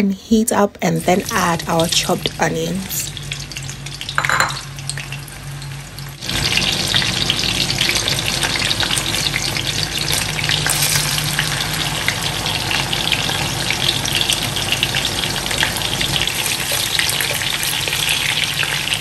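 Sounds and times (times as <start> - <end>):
onions sizzling in hot oil: 1.1 - 19.0.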